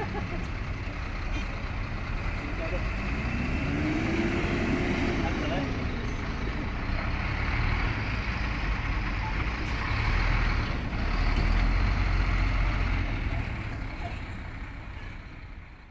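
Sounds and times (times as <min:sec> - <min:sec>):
diesel truck engine rumbling: 0:00.0 - 0:15.9.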